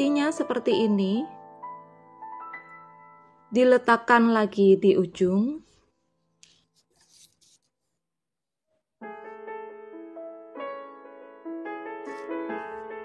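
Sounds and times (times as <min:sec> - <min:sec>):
background piano music: 0:00.0 - 0:07.2, 0:09.0 - 0:13.0.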